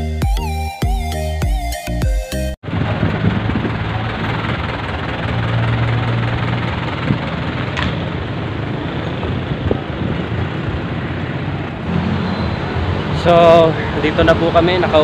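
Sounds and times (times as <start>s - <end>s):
road noise: 2.6s - 15.0s
engine humming: 2.7s - 15.0s.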